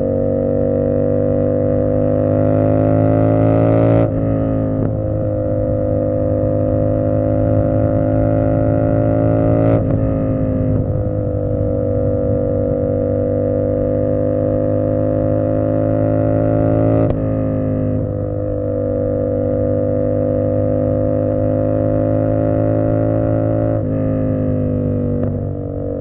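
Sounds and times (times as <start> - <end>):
motorcycle engine at cruising revs: 0.0 - 26.0.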